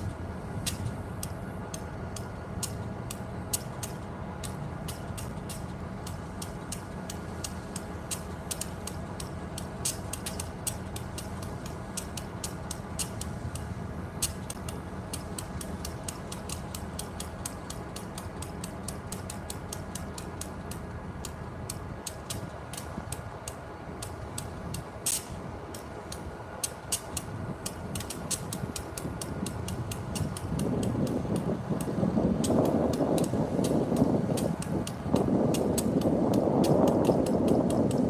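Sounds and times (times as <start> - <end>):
rapid irregular clicking: 0.0 - 38.0
steady low rumble: 0.0 - 38.0.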